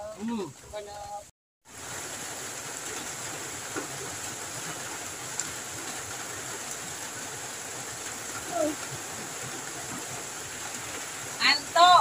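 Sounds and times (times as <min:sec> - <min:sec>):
heavy rain on metal roof: 0:00.0 - 0:12.0.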